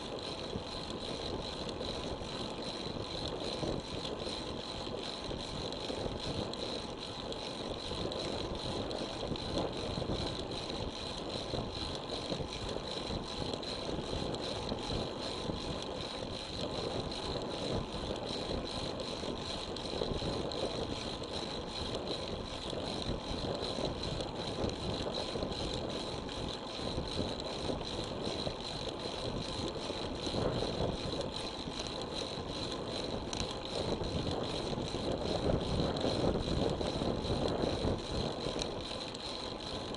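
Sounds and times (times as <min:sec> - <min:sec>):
bicycle road noise: 0:00.0 - 0:39.9
rushing wind: 0:07.6 - 0:39.9.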